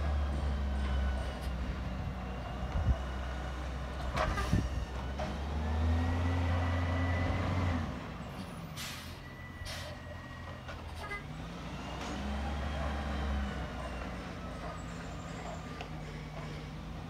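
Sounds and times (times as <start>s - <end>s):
garbage truck diesel engine revving: 0.0s - 17.0s.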